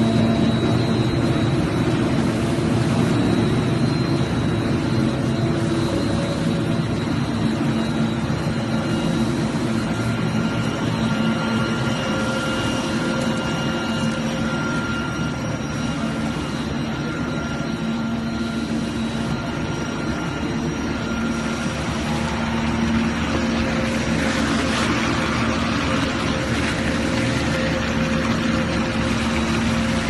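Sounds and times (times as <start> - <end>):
factory machinery hum: 0.0 - 30.0.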